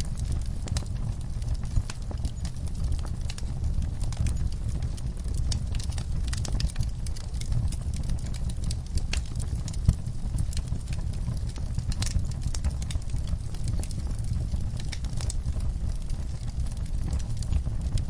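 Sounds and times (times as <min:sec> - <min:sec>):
wood fire crackling in fireplace: 0:00.0 - 0:18.0.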